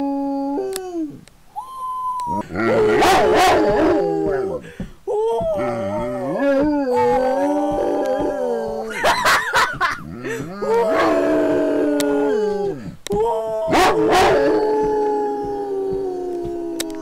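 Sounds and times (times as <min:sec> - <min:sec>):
dog howling: 0:02.3 - 0:09.4, 0:10.1 - 0:17.0.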